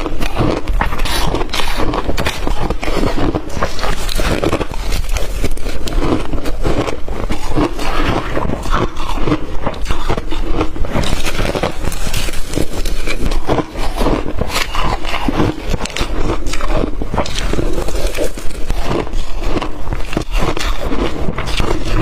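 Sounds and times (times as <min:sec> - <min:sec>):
crushed ice being chewed: 0:00.0 - 0:22.0.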